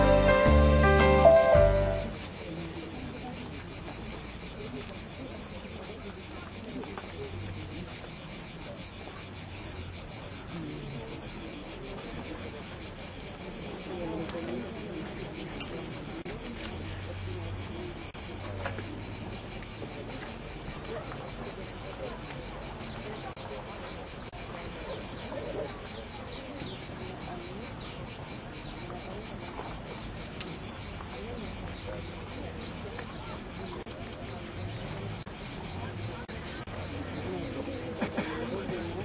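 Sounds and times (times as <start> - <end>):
insects chirring: 0.1 - 39.0.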